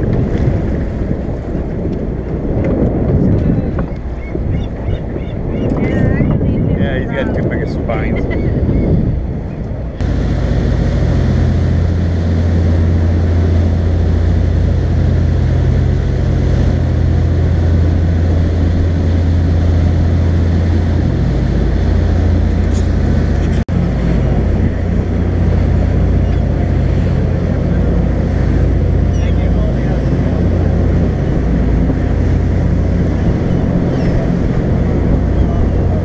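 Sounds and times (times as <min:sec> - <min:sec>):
boat engine droning: 0:00.0 - 0:36.0
water wash under boat: 0:00.0 - 0:36.0.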